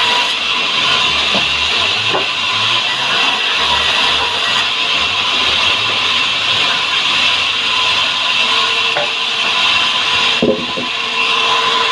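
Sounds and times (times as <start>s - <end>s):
band saw hissing: 0.0s - 11.9s.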